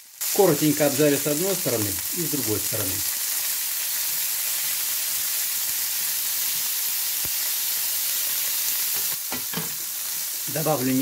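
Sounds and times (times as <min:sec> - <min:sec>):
asparagus sizzling in a frying pan: 0:00.0 - 0:11.0.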